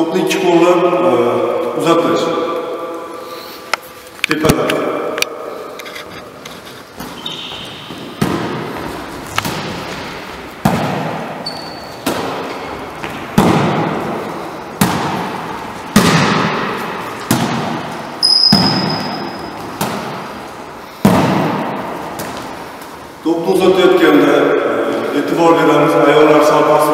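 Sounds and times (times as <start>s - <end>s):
volleyball slaps echoing in hall: 0.0s - 25.6s.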